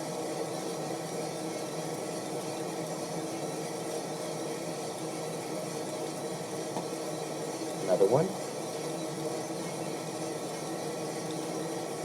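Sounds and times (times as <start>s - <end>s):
coffee roaster motor and fan drone: 0.0s - 12.0s.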